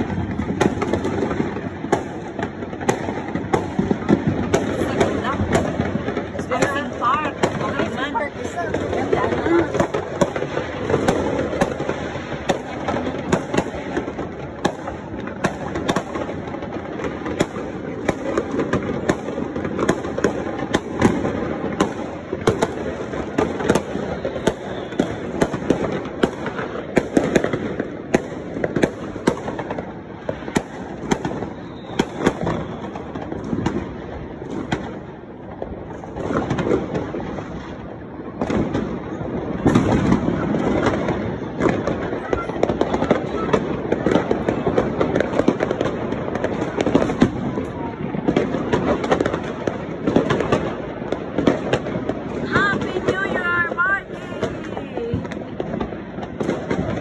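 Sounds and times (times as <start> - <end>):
fireworks rumbling bursts: 0.0 - 57.0
sharp firework bangs and crackles: 0.0 - 57.0.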